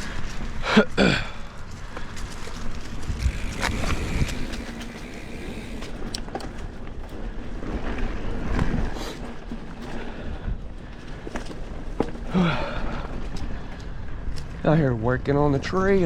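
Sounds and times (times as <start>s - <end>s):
bike tyres rumbling on dirt: 0.0s - 14.4s
bike clicks and rattles: 0.0s - 14.7s.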